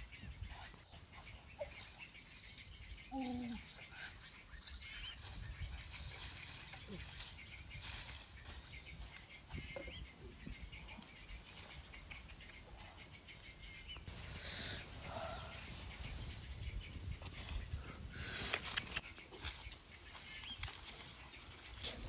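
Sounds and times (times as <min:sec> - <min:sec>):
faint outdoor ambience: 0:00.0 - 0:22.0.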